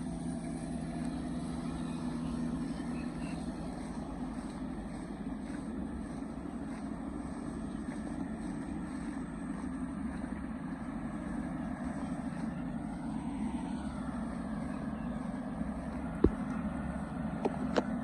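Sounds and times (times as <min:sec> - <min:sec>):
truck engine running steadily: 0:00.0 - 0:18.0.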